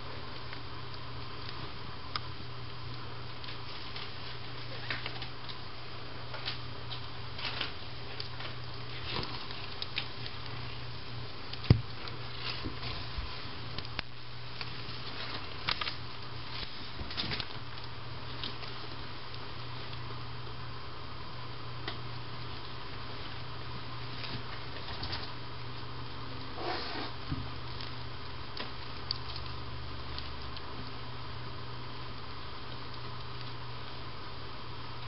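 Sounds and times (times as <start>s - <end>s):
kittens rustling and licking: 0.0s - 35.0s
low steady hum: 0.0s - 35.0s.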